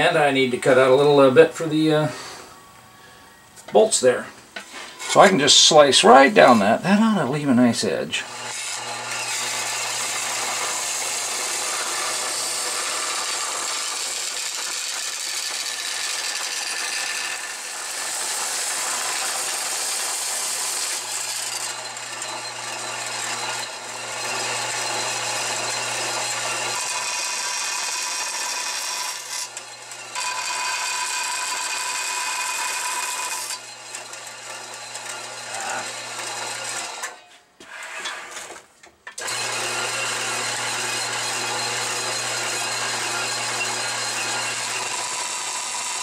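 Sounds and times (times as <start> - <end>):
bandsaw cutting metal: 4.6 - 46.0.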